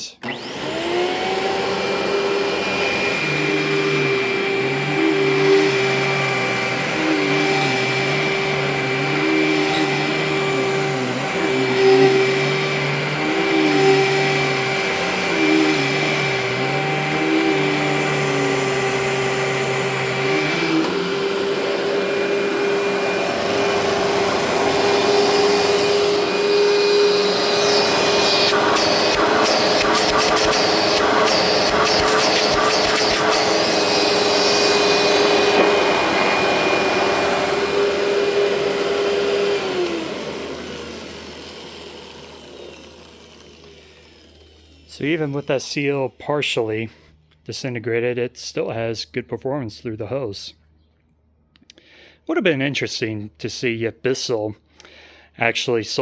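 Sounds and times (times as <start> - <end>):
vacuum cleaner motor whine: 0.1 - 46.5.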